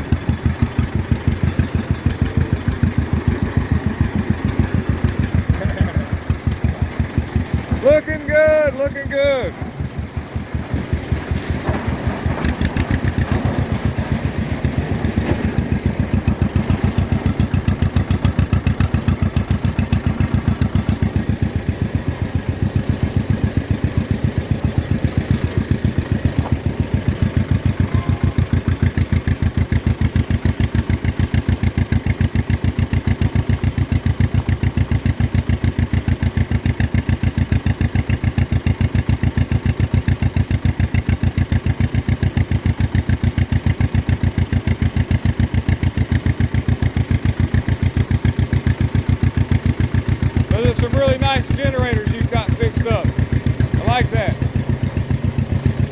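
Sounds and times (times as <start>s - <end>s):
two-cylinder tractor engine running: 0.0s - 55.9s.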